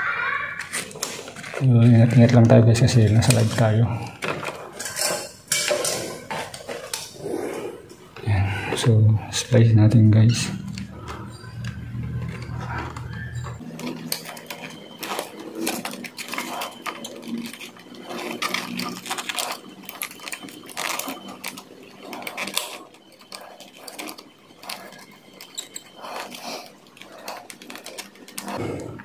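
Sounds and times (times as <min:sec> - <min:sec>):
copper wire scraping and clicking: 0:00.6 - 0:07.2, 0:10.3 - 0:28.6.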